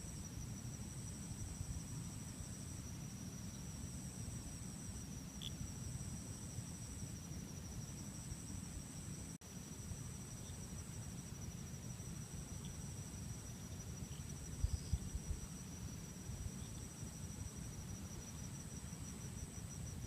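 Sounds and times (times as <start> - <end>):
crickets trilling: 0.0 - 20.0
low rumble of background noise: 0.0 - 20.0.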